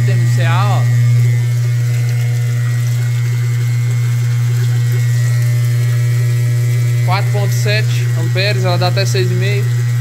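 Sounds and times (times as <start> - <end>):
pump humming: 0.0 - 10.0
water splashing into barrel: 0.1 - 10.0.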